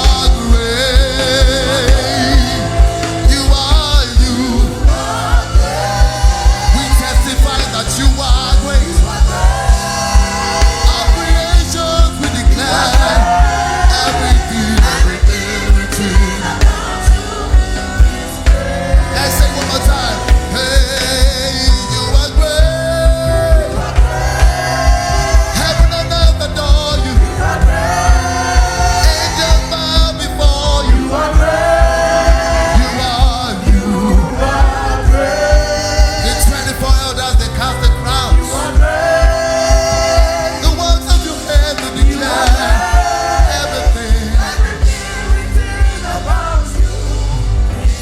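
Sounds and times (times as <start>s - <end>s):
singers repeating sung phrases: 0.0s - 47.5s
band with driving drum beat: 0.0s - 48.0s.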